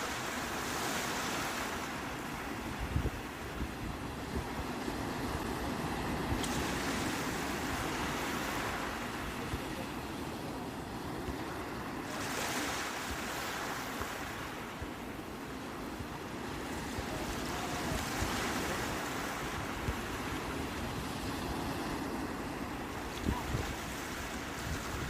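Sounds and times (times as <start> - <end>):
sea waves washing onto shore: 0.0 - 25.0.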